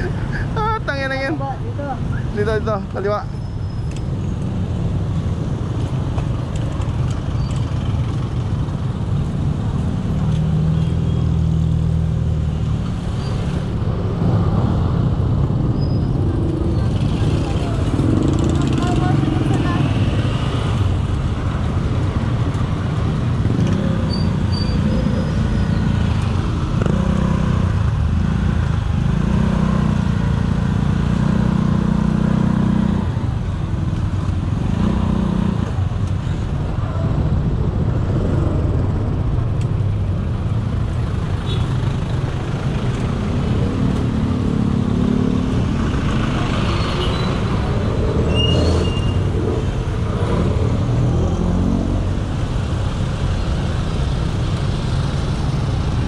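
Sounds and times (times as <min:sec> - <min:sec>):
traffic engines rumbling: 0:00.0 - 0:56.0.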